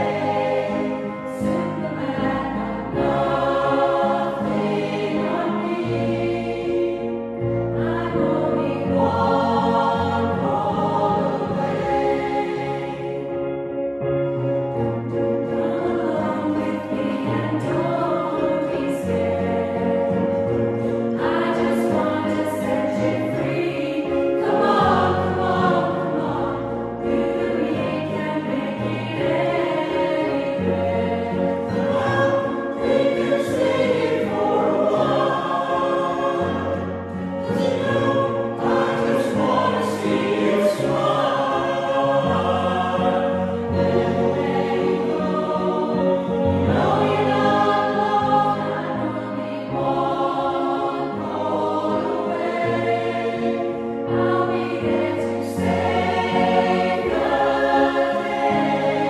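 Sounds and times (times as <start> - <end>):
choir singing a pop ballad: 0.0 - 13.7, 15.4 - 59.0.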